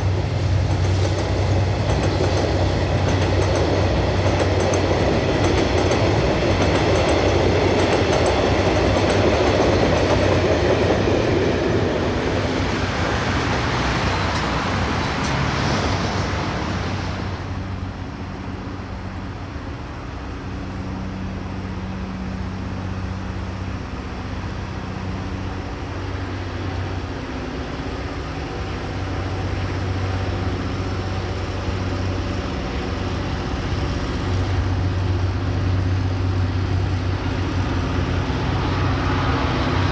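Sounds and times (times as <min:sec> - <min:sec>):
train wheels rumbling and clattering: 0:00.0 - 0:39.9.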